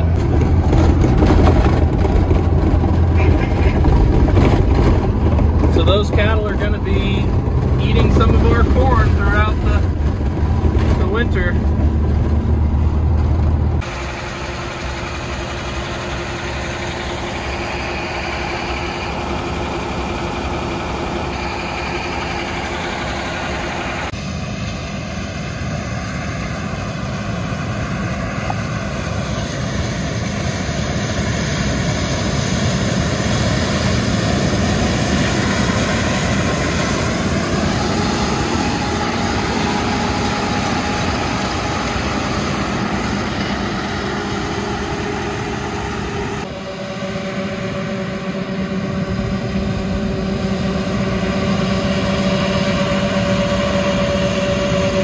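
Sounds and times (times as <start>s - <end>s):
combine harvesting corn: 0.0s - 55.0s
grain cart augering corn: 0.0s - 55.0s.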